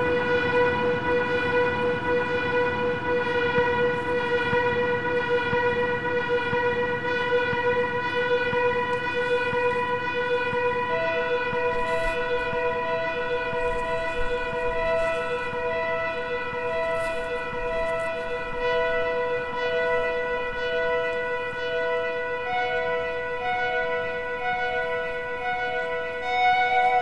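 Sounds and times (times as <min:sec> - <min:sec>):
drone of held tones: 0:00.0 - 0:27.0.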